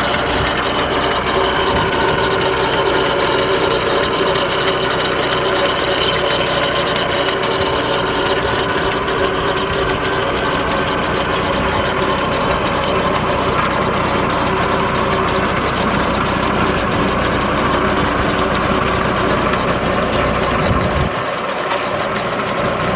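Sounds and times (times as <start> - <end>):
tractor engine running steadily: 0.0 - 22.9.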